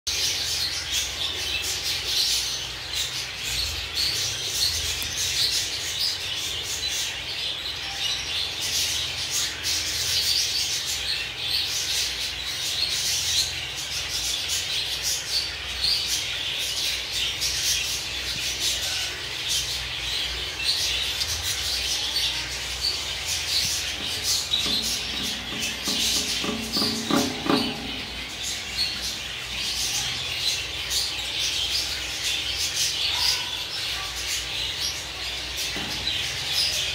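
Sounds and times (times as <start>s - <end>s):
budgerigars chirping and chattering: 0.1s - 36.9s.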